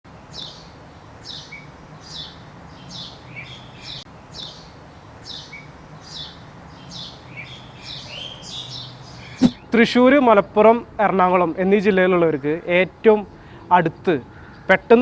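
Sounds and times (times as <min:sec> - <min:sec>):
bird chirping: 0:00.2 - 0:15.0
faint steady hum: 0:01.8 - 0:15.0.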